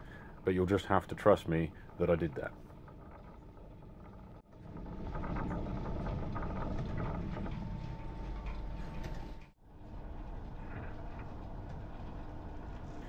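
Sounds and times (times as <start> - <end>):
clattery lathe gears and belt: 0.0 - 13.0
steady machine running: 0.0 - 13.0.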